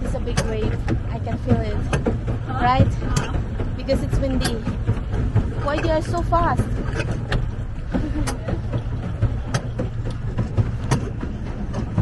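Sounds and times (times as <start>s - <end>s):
pedal drive clicking and creaking: 0.0s - 12.0s
steady low rumble: 0.0s - 12.0s.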